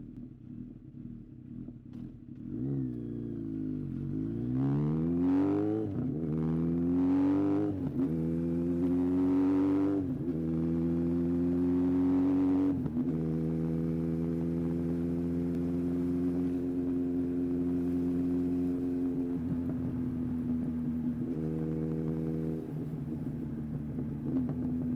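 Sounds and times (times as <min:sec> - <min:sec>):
motorcycle engine accelerating: 0:00.0 - 0:24.9.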